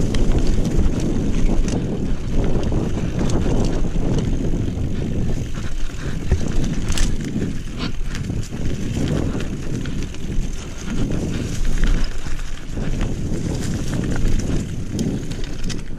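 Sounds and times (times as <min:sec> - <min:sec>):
bike clattering over rough ground: 0:00.0 - 0:15.9
wind rumbling on microphone: 0:00.0 - 0:15.9.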